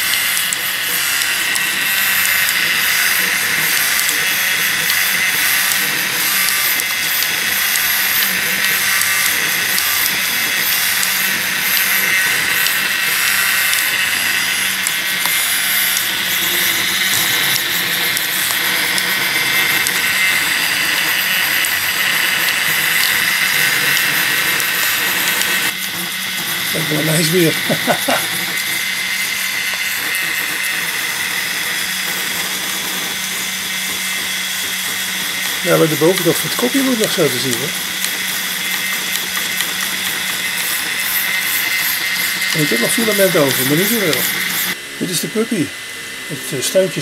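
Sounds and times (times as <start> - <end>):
printer stepper motors whirring: 0.0 - 47.0.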